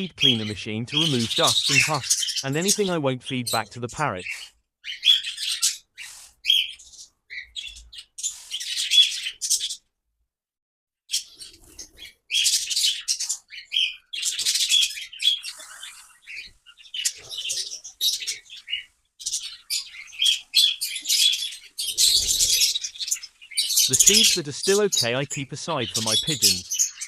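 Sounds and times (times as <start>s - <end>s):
small birds chirping: 0.0s - 9.9s, 11.1s - 27.0s.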